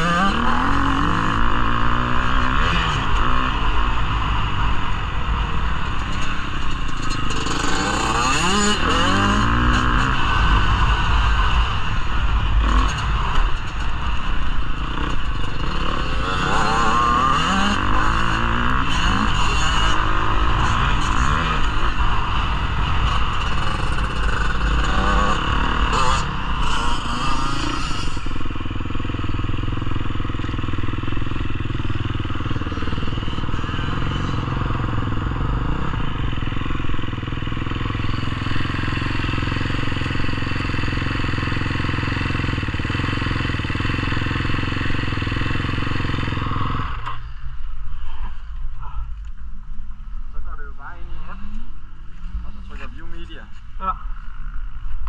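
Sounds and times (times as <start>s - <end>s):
motocross bike engine revving: 0.0s - 47.4s.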